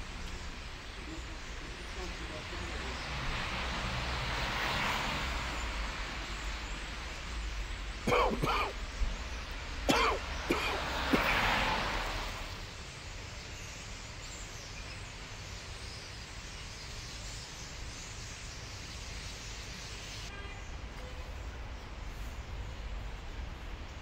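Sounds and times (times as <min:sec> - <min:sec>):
city background hiss: 0:00.0 - 0:24.0.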